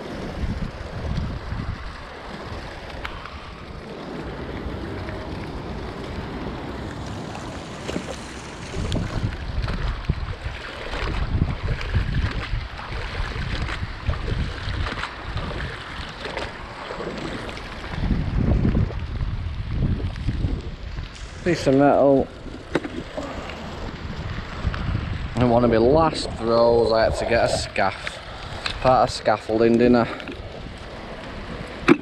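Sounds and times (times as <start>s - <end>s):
rain hissing on water: 0.0s - 32.0s
wind buffeting microphone: 0.0s - 32.0s.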